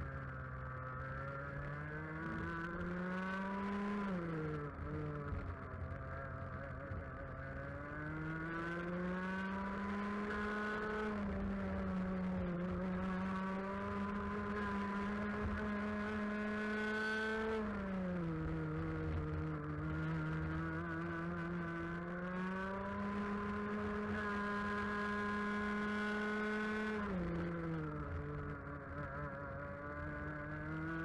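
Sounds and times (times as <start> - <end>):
kart engine at high revs: 0.1 - 31.0.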